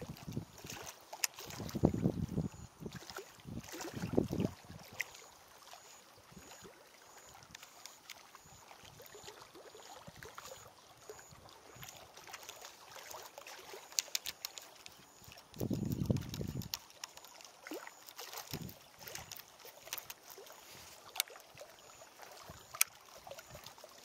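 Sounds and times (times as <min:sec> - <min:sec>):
waves lapping against boat hull: 0:00.0 - 0:24.0.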